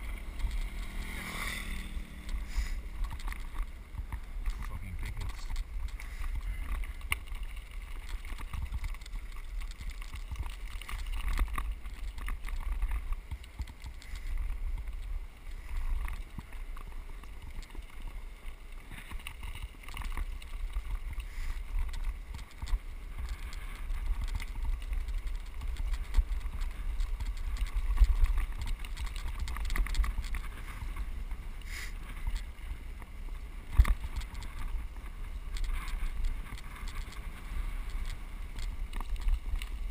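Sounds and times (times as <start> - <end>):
bike rattling over bumps: 0.0 - 39.9
gravel crackling under tyres: 0.0 - 39.9
wind rumble on microphone: 0.0 - 39.9.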